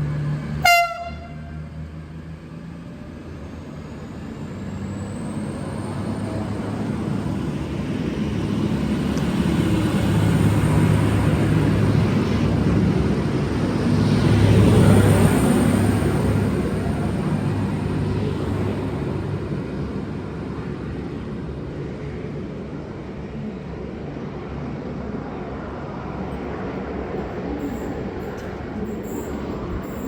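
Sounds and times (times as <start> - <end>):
train diesel engines accelerating: 0.0 - 30.0.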